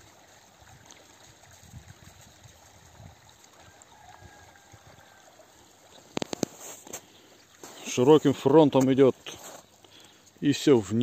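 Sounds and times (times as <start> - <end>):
stream water washing: 0.0 - 11.0.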